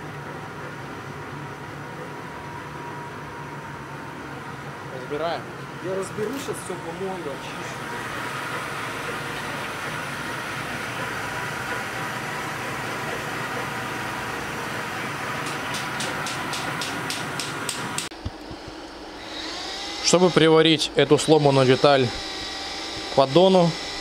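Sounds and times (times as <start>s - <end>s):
machine hum and hiss: 0.0s - 24.0s.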